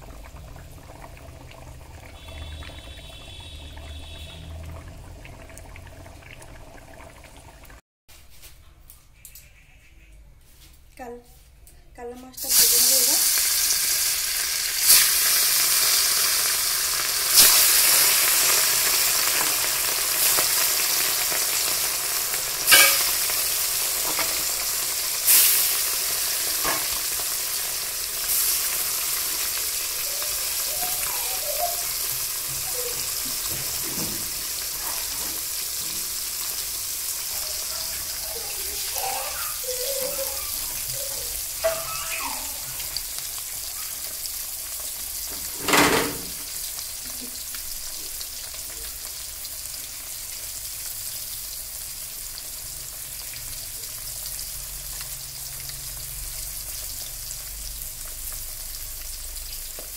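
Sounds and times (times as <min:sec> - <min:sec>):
fish sizzling in hot oil: 0:00.0 - 0:07.8, 0:12.4 - 0:59.9.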